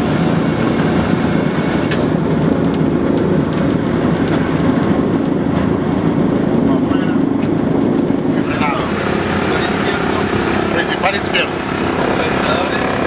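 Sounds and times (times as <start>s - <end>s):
propeller engine droning: 0.0s - 13.0s.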